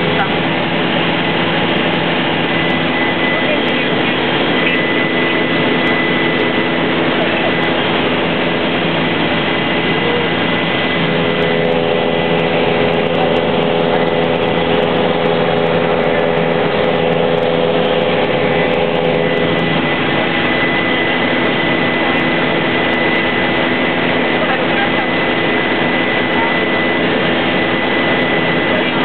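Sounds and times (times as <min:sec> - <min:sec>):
helicopter turbine and rotor noise: 0:00.0 - 0:29.0.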